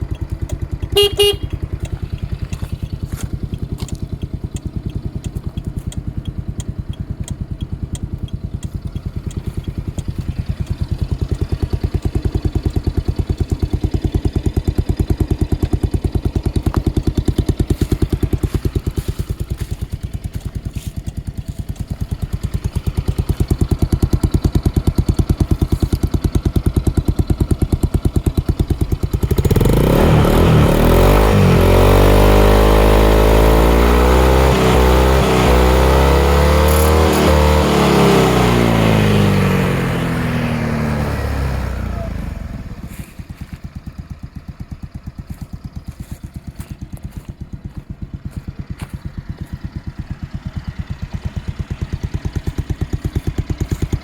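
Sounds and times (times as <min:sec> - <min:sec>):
scooter engine idling and revving: 0:00.0 - 0:54.0.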